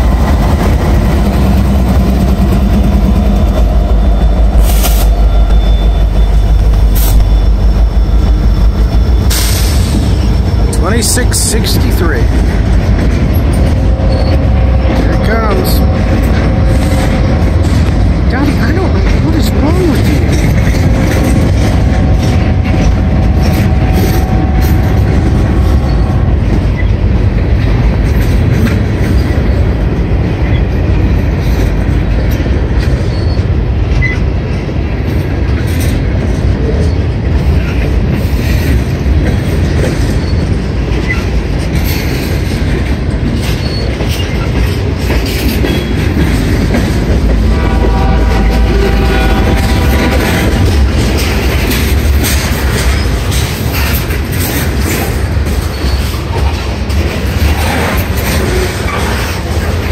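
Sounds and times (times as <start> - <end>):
freight train rumbling past: 0.0 - 59.9
train wheel clicks and clanks: 0.0 - 59.9.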